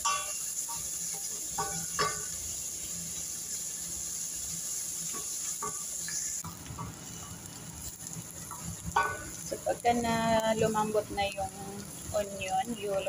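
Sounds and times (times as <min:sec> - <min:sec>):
onion and garlic sizzling in oil: 0:00.0 - 0:13.0.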